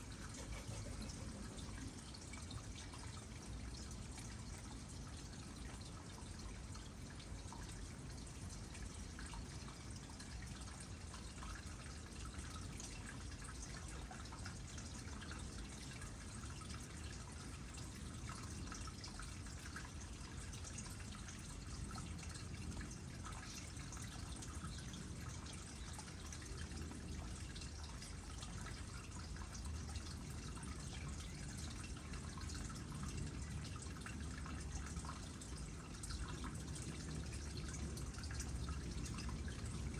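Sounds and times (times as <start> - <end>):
drips and splashes: 0.0 - 39.9
water trickling into pond: 0.0 - 39.9.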